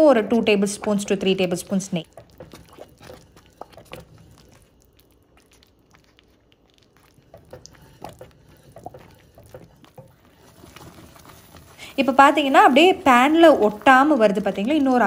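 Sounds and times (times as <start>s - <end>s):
wooden spoon scraping thick mixture: 0.2s - 15.0s.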